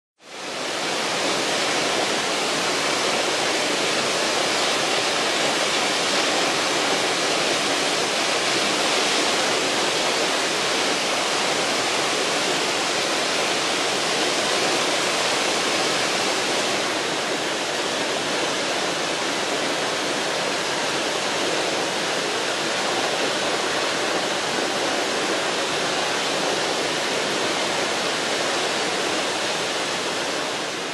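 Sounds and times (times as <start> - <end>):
waterfall splashing on rock: 0.4 - 30.9.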